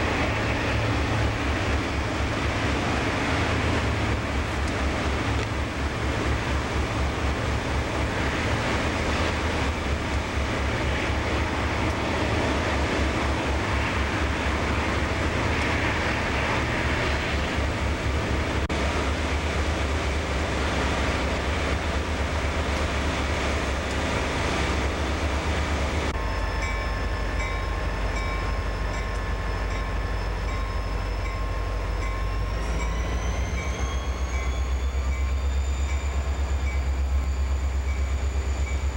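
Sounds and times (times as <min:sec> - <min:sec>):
locomotive engine rumble: 0:00.0 - 0:38.9
locomotive whines: 0:00.0 - 0:38.9.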